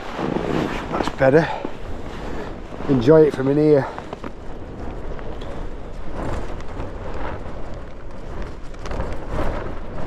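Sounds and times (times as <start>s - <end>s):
gusty wind on microphone: 0.0s - 10.0s
tent fabric flapping: 0.0s - 10.0s.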